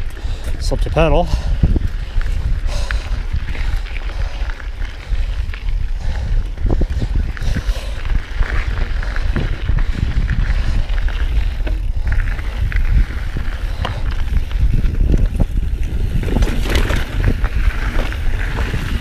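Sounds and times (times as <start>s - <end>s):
bike rattling clicks and knocks: 0.0s - 19.0s
tyres on dirt and rock: 0.0s - 19.0s
wind buffeting microphone: 0.0s - 19.0s.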